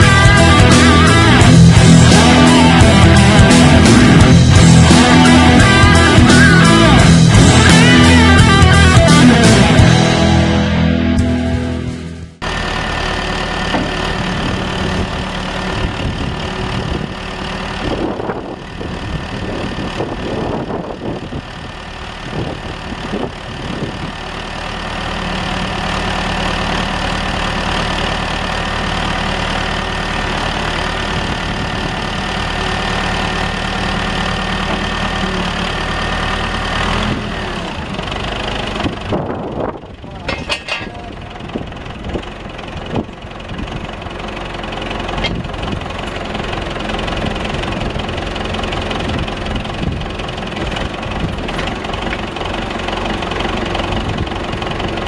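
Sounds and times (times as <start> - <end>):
backhoe engine running: 0.0 - 55.0.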